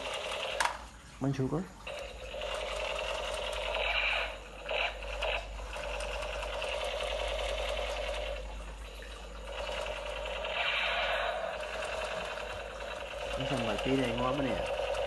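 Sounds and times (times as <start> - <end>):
toy machine gun buzzing rattle: 0.0 - 0.9, 1.8 - 15.0.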